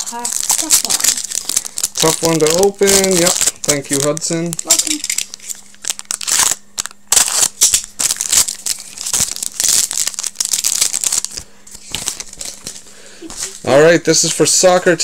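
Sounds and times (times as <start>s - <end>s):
card pack wrapper crinkling: 0.0s - 12.8s.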